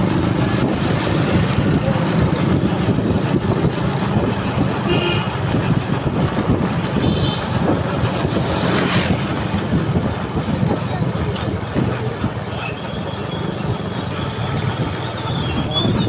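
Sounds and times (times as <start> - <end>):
wind buffeting microphone: 0.0 - 12.9, 13.6 - 16.0
vehicle rumble: 0.0 - 16.0.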